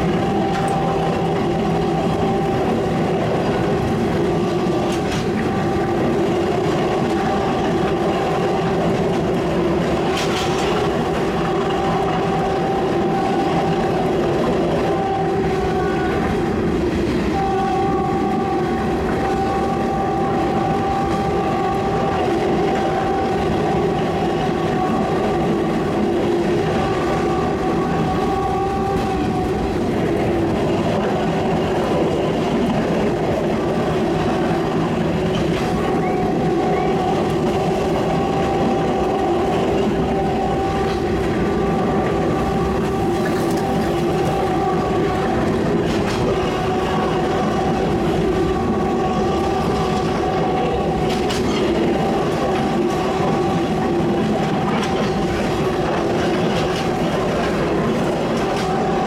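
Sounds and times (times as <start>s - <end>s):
wheels clacking over rail joints: 0.0s - 15.1s, 20.0s - 59.0s
railcar rumbling: 0.0s - 59.0s
train horn blasts: 0.0s - 59.0s.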